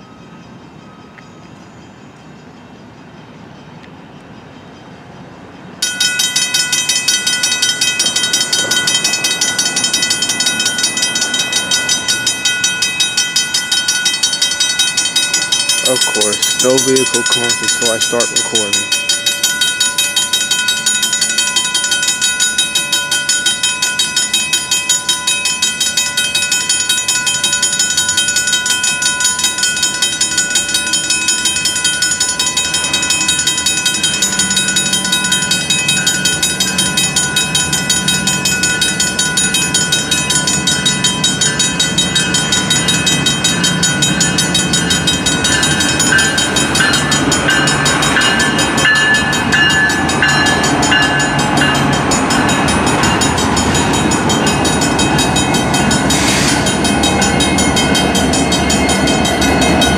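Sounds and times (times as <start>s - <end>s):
crossing bells ringing: 0.0s - 59.9s
diesel locomotive rumble: 0.0s - 59.9s.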